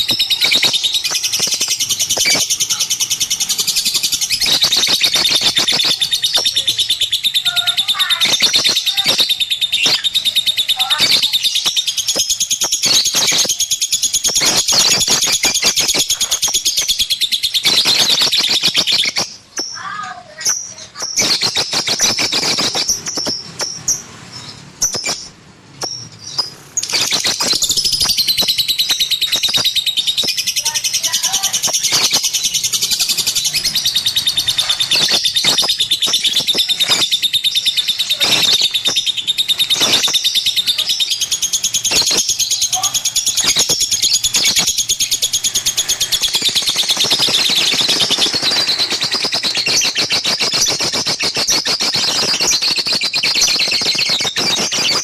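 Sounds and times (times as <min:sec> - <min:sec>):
bird chattering trill: 0:00.0 - 0:55.0.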